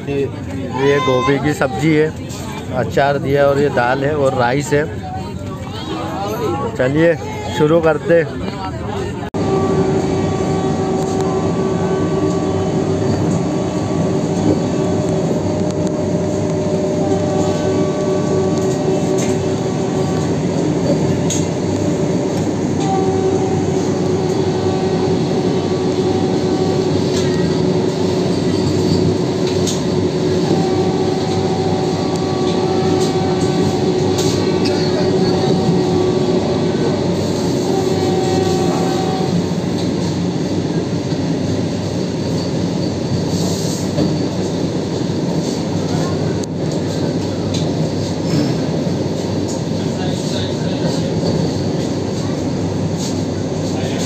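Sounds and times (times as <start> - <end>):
train rumble and hum: 0.0 - 54.0.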